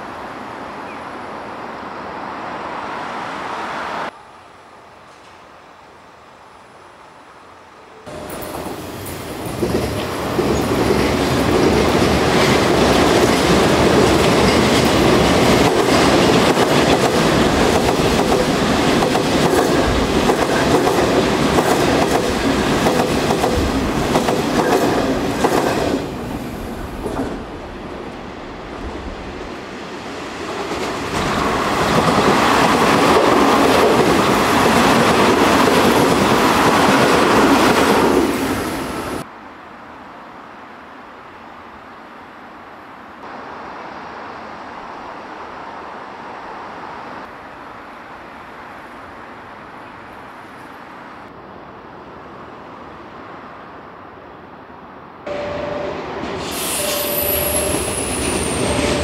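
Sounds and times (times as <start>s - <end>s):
electric trains passing at speed: 0.0s - 59.0s.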